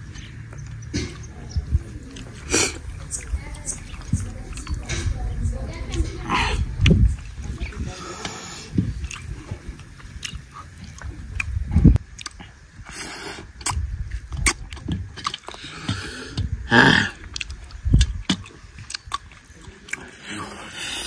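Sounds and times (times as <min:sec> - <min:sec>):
chewing food with mouth clicks: 0:00.0 - 0:21.0.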